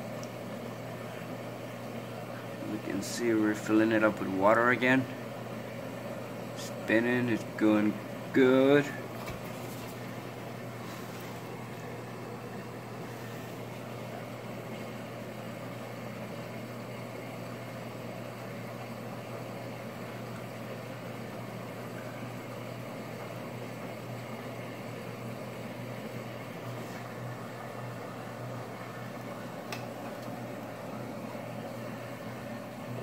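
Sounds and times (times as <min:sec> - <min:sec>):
washing machine running: 0:00.0 - 0:33.0.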